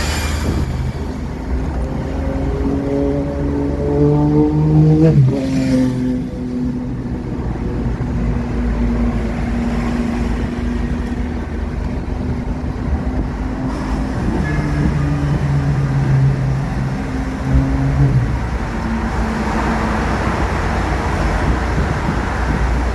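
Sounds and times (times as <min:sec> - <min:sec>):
engine running at low revs: 0:00.0 - 0:22.9.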